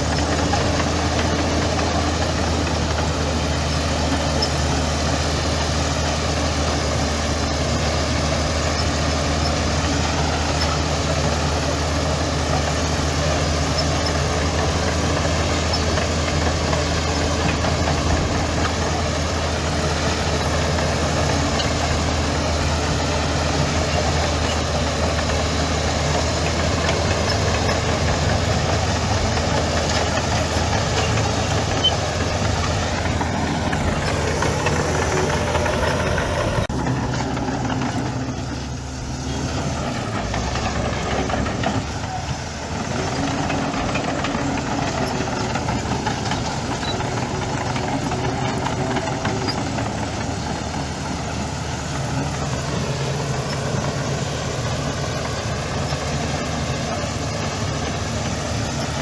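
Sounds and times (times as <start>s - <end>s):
heavy diesel engine humming: 0.0s - 59.0s.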